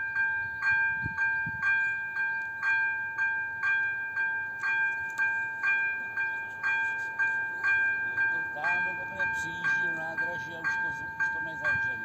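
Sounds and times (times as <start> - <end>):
level crossing warning bell: 0.0 - 12.0
steady ringing tone: 0.0 - 12.0.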